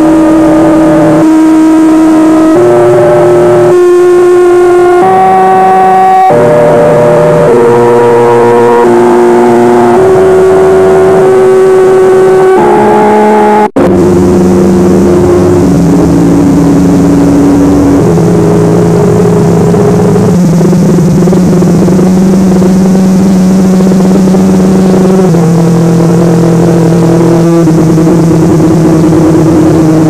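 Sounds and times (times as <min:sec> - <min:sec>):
emergency alert alarm tones: 0:00.0 - 0:30.0.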